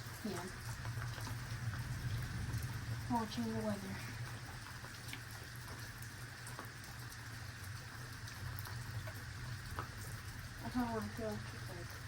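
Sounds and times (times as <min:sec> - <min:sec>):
low steady hum: 0:00.0 - 0:12.0
steady rain falling: 0:00.0 - 0:12.0.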